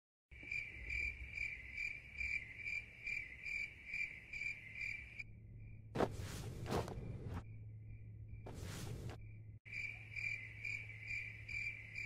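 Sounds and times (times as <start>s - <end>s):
cricket chirping: 0.3s - 12.0s.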